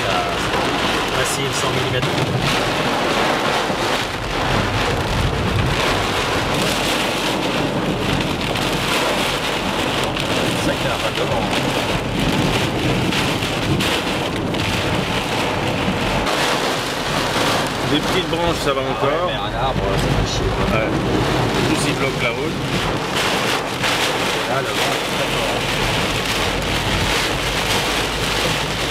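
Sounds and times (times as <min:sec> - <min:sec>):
heavy rain on car roof: 0:00.0 - 0:28.9.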